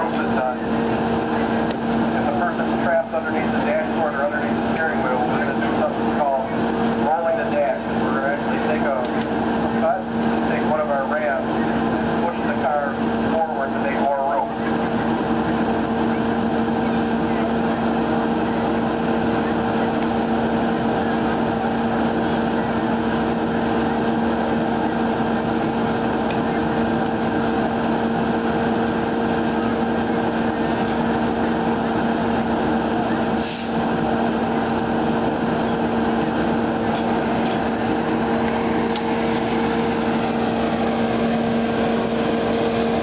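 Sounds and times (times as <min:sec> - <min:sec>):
power unit engine droning: 0:00.0 - 0:43.0.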